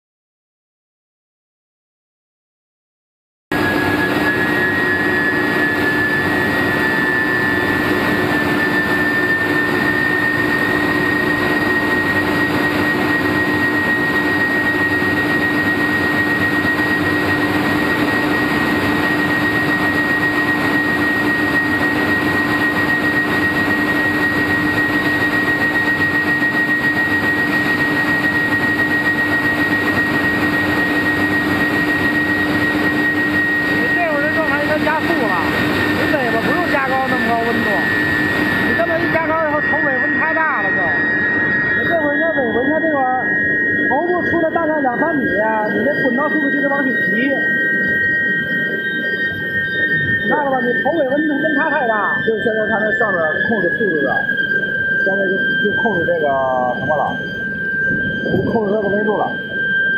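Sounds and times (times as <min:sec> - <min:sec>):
high-pitched machine whine: 0:03.5 - 0:59.9
low steady machine hum: 0:03.6 - 0:59.9.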